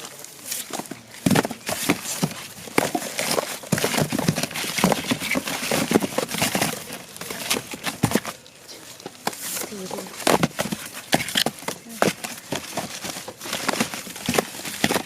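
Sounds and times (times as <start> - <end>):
paper crackle: 0.0 - 15.0
cardboard tubes knocking: 0.7 - 15.0.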